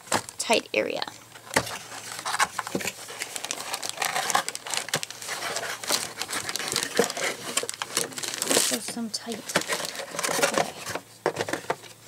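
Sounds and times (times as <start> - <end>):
packaging rustling and crinkling: 0.0 - 0.4, 1.2 - 12.0
small clicks and crackles: 1.4 - 12.0.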